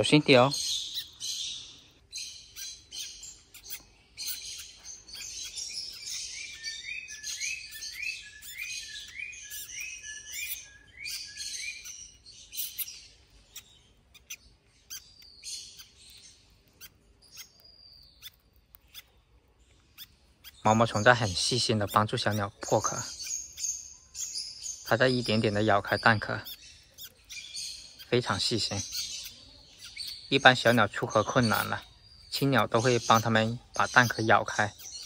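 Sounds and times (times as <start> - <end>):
bird chirps and twitters: 0.0 - 35.0.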